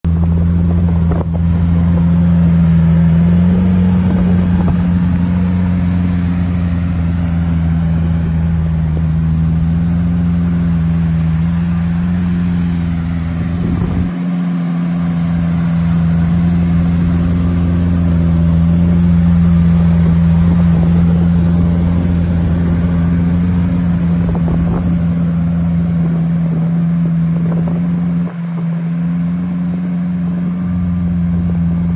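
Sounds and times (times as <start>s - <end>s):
car engine humming: 0.0s - 31.9s.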